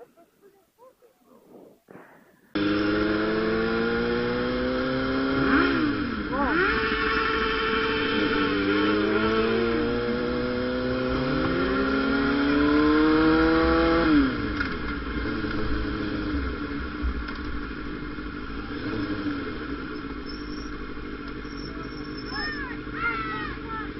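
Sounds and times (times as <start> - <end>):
motorcycle engine: 2.5 - 23.9.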